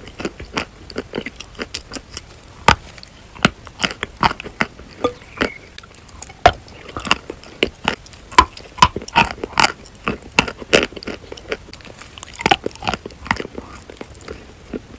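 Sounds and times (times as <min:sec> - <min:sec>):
chalk being chewed crunching: 0:00.0 - 0:14.9.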